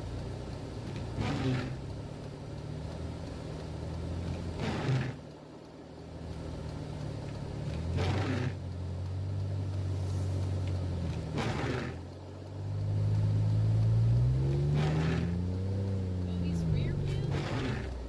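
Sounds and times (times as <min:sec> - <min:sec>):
engine running under load: 0:00.0 - 0:18.0.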